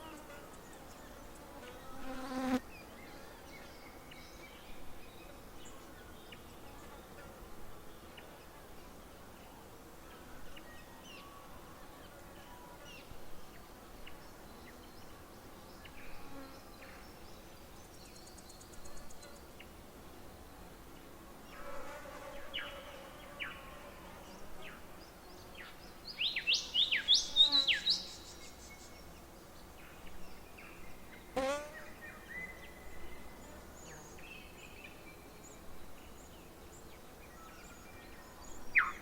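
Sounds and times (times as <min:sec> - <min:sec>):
insect buzzing past: 0:00.0 - 0:07.7, 0:13.1 - 0:39.0.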